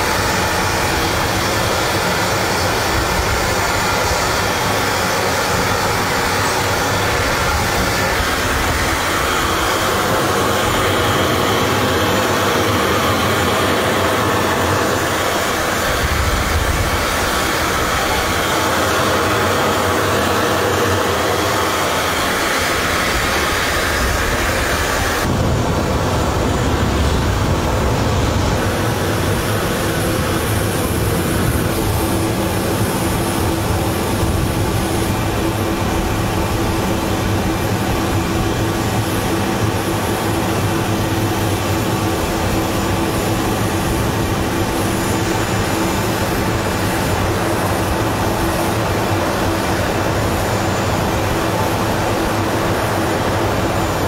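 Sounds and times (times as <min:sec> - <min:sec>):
aircraft engines roaring: 0:00.0 - 0:54.0.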